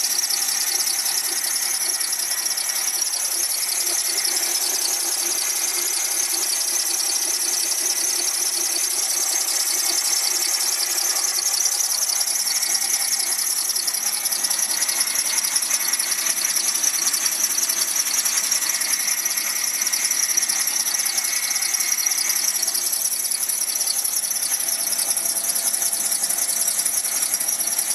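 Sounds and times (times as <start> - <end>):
car high-pitched whistling squeal: 0.0 - 27.9.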